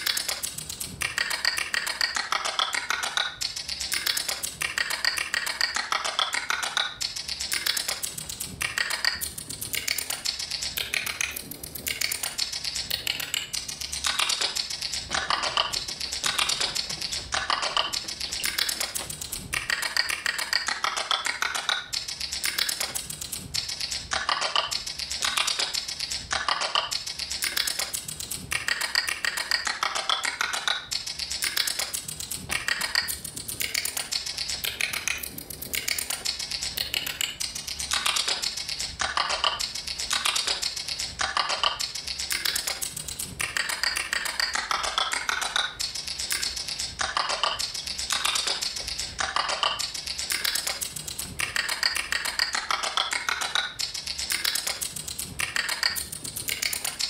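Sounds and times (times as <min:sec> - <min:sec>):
rapid clicking and tapping: 0:00.0 - 0:57.0.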